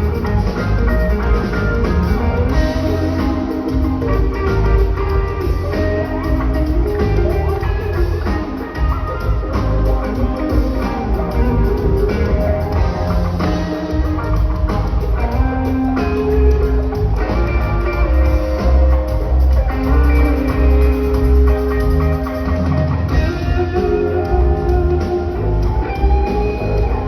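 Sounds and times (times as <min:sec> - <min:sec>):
electric guitar lines: 0:00.0 - 0:27.0
live rock band playing: 0:00.0 - 0:27.0.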